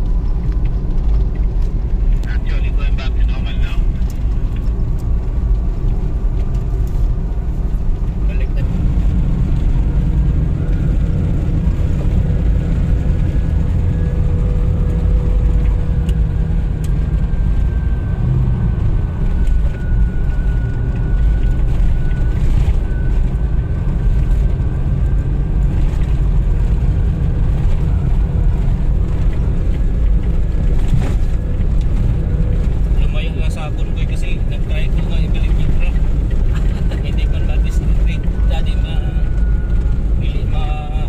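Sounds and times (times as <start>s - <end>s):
off-road vehicle engine rumble: 0.0s - 41.0s.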